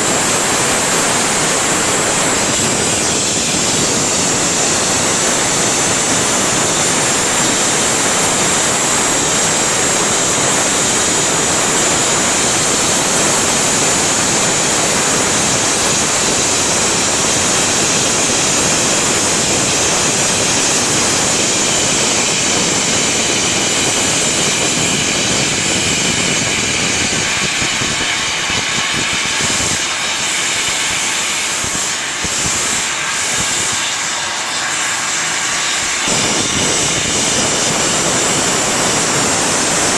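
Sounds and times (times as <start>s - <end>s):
gas burner flame hissing: 0.0s - 39.9s.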